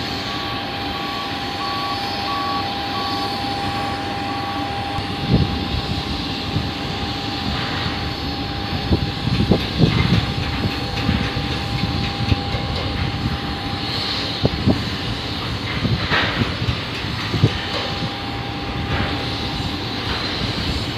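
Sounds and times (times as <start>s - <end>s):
aircraft engines running: 0.0s - 20.9s.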